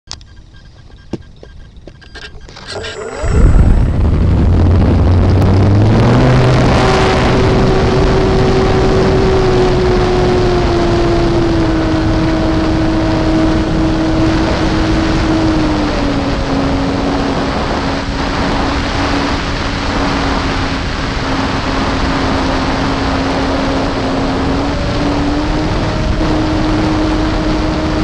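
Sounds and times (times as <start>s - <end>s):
propeller wash and wind noise: 0.1s - 28.0s
electric motor whine: 1.5s - 28.0s.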